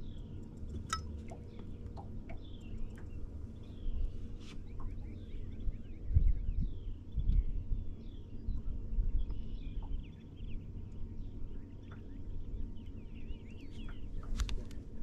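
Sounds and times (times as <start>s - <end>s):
birds chirping: 0.0s - 15.0s
low uneven rumble: 0.0s - 15.0s.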